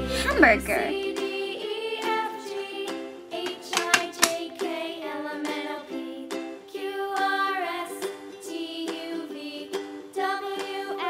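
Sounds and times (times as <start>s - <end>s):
cheerful background music: 0.0s - 11.0s.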